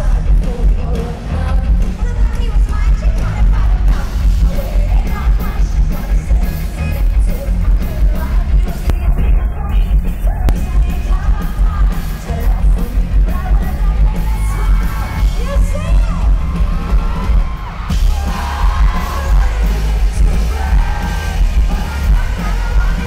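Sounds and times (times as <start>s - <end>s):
woman singing: 0.0s - 16.4s, 18.1s - 23.0s
rock band playing live: 0.0s - 23.0s.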